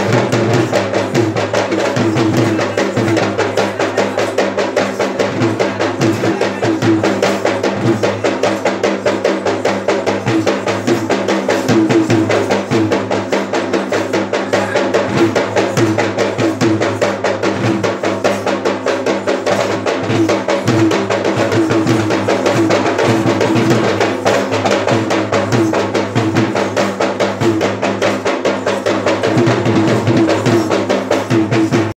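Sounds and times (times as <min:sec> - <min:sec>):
fast ritual drumming: 0:00.0 - 0:32.0.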